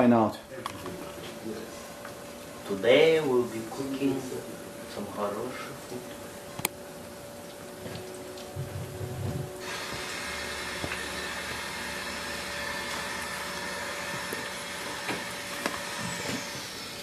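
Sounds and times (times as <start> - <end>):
exhaust fan rushing with faint whine: 0.0 - 17.0.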